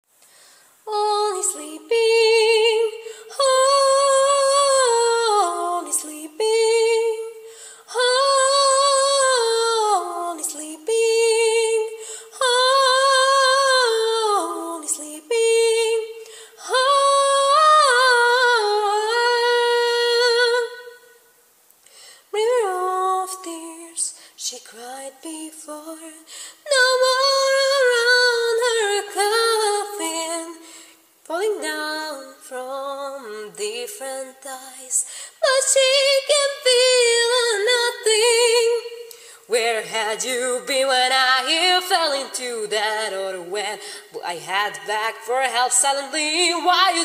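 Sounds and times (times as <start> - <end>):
woman singing a cappella: 0.1 - 47.0.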